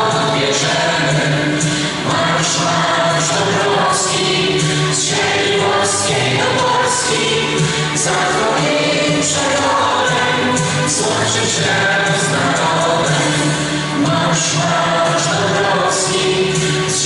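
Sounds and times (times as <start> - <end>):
young children singing: 0.0 - 17.0.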